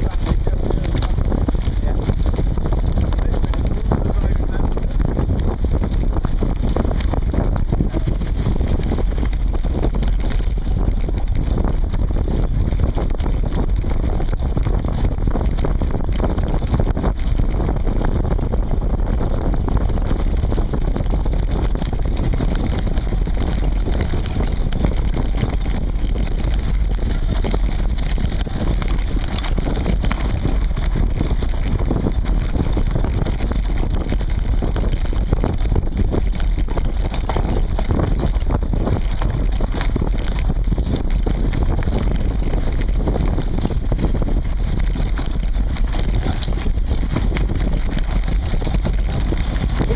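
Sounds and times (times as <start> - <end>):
bike knocks and rattles: 0.0 - 49.9
tyres rumbling on dirt: 0.0 - 49.9
wind buffeting: 0.0 - 49.9.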